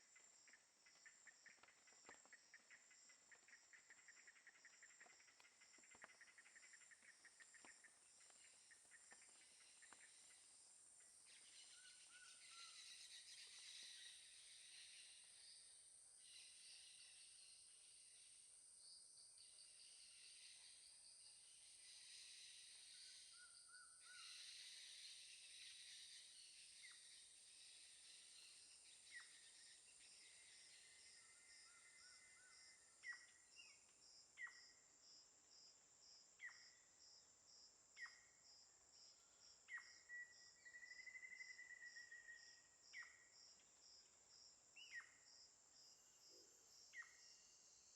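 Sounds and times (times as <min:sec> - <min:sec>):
cricket chirping: 0:00.0 - 0:47.9
insect drone: 0:00.0 - 0:47.9.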